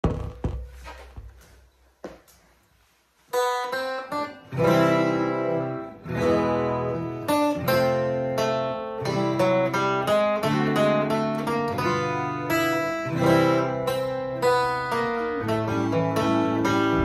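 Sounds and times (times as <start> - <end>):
acoustic guitar picking and strumming: 3.3 - 17.0.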